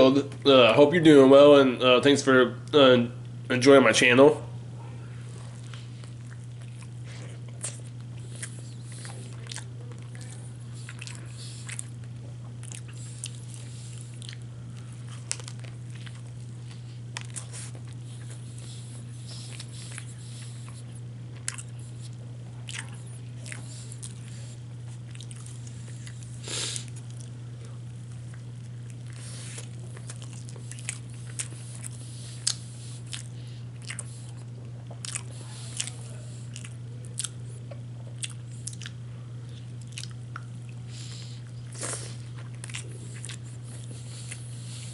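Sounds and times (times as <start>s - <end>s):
steady low hum: 0.0s - 44.9s
chewing with short crunches: 5.2s - 44.9s.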